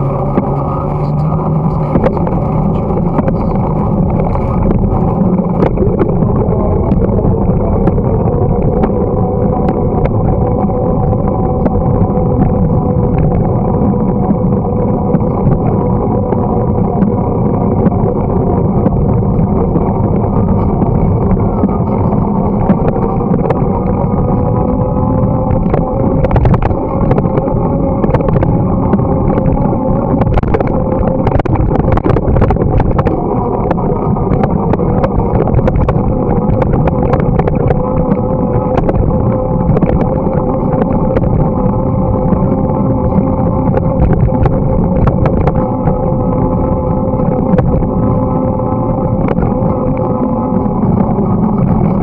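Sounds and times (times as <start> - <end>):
bicycle tyres and drivetrain humming: 0.0 - 52.0.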